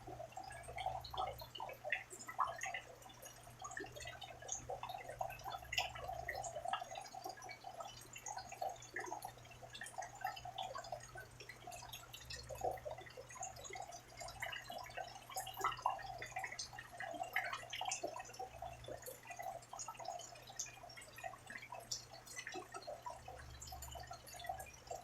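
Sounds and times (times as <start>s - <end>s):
rain dripping: 0.0s - 25.0s.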